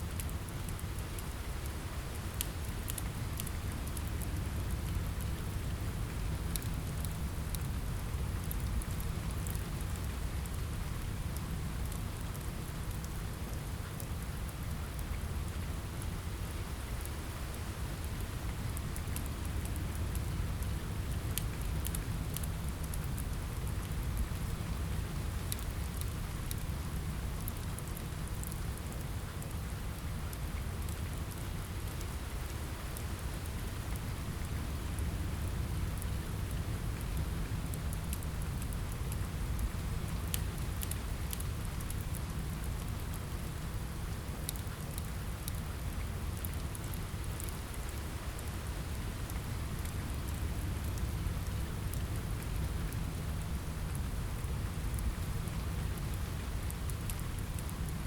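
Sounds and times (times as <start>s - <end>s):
rain on a window: 0.0s - 58.0s
wood fire crackling: 0.0s - 58.0s.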